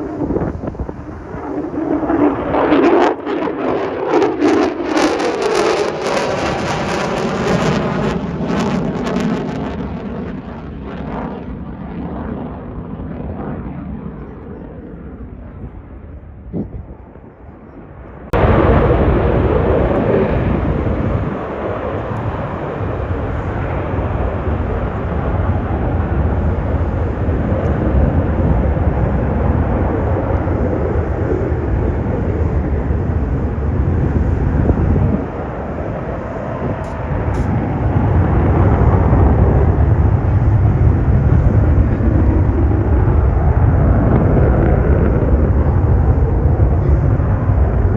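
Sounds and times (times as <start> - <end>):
jet engine roar: 0.0 - 47.9.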